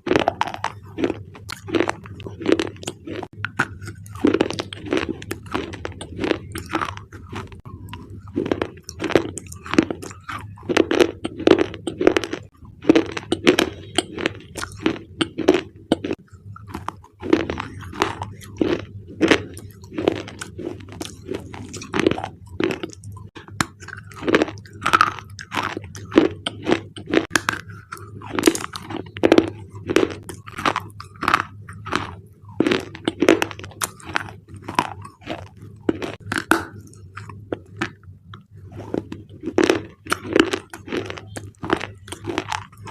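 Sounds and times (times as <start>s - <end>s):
slate bars crunching: 0.0s - 38.0s, 38.8s - 42.9s.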